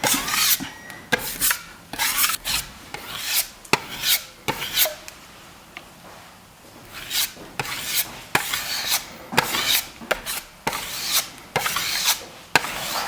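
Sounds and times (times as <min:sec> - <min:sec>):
trowel scraping plaster: 0:00.0 - 0:05.0, 0:06.9 - 0:13.0.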